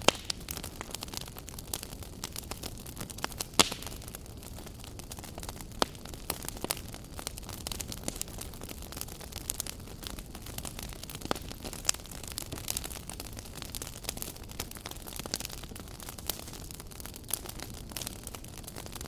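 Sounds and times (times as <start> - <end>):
low hiss of burning: 0.0 - 19.0
wood fire crackling: 0.0 - 19.0.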